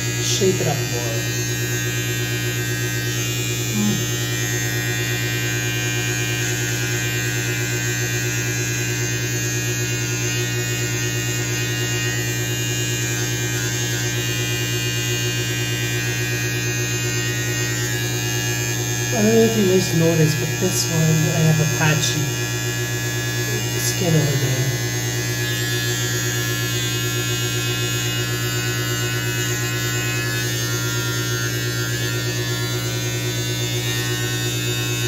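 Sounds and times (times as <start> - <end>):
electric beard trimmer buzzing: 0.0 - 35.0.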